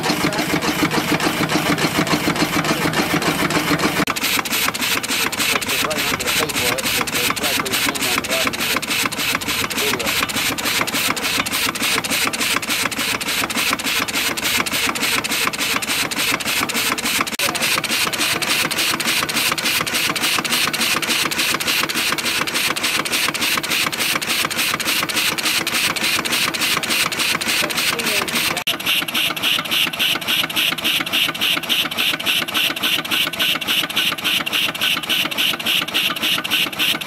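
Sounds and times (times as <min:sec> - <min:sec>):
steam engine chuffing and clattering: 0:00.0 - 0:37.0.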